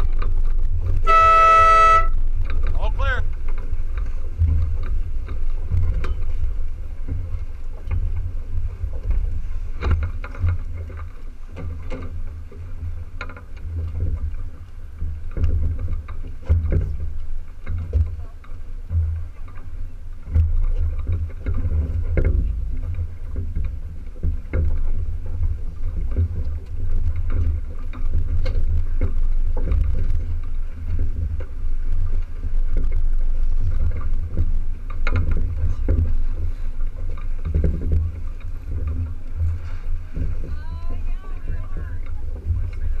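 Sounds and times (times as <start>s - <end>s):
water washing against hull: 0.0s - 43.0s
wind buffeting microphone: 0.0s - 43.0s.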